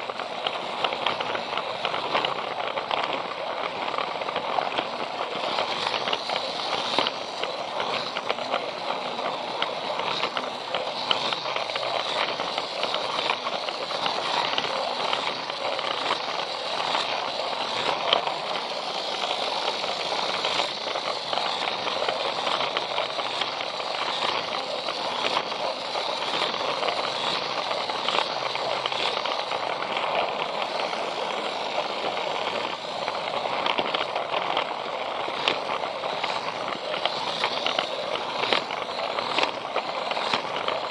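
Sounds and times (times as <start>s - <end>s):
toy train rattling clatter: 0.0s - 40.9s.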